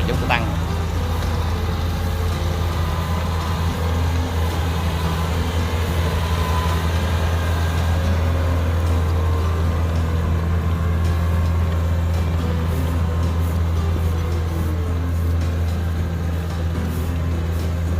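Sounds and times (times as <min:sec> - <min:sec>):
diesel engine droning: 0:00.0 - 0:17.9.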